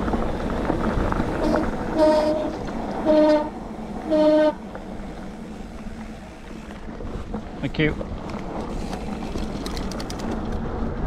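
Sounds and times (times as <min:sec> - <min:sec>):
tyres rolling on dirt: 0:00.0 - 0:11.0
wind noise: 0:00.0 - 0:11.0.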